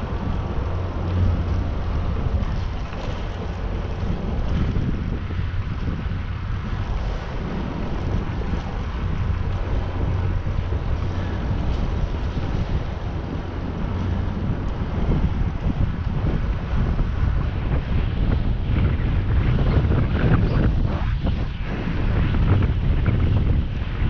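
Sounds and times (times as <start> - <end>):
wind rushing on microphone: 0.0 - 24.0.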